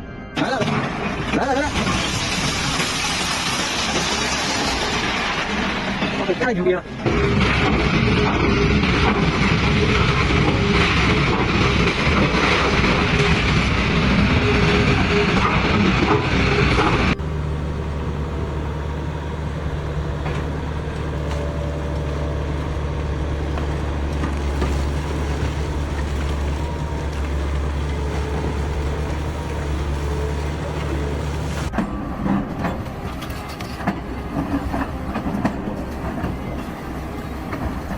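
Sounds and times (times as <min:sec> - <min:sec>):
demolition crunching and rumbling: 0:00.3 - 0:37.9
diesel engine running: 0:00.4 - 0:37.9.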